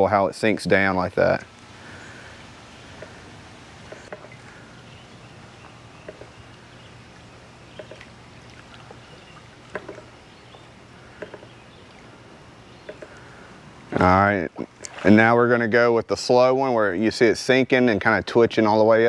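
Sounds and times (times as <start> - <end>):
faint underwater hum: 0.0 - 19.0.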